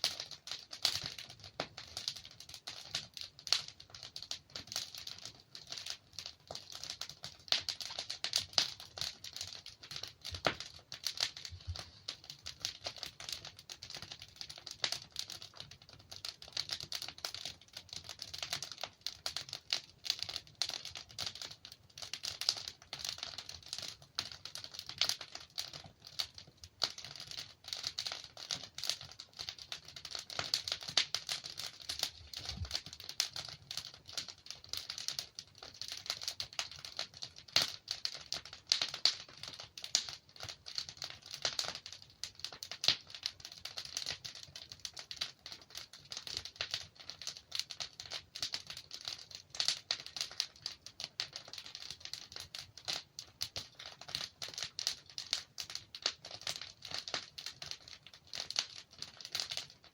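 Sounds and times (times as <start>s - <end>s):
logs crackling in fireplace: 0.0s - 59.9s.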